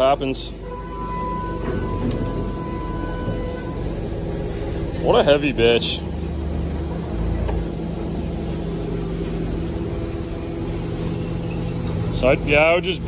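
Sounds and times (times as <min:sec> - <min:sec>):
forklift engine running: 0:00.0 - 0:13.0
high whine: 0:00.0 - 0:13.0.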